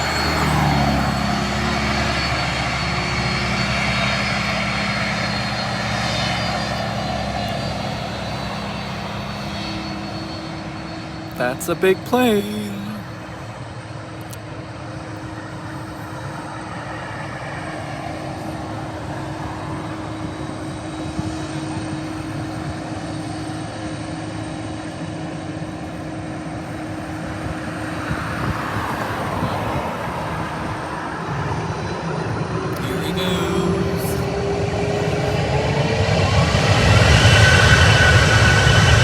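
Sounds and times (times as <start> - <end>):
jet airliner engines running: 0.0 - 39.0.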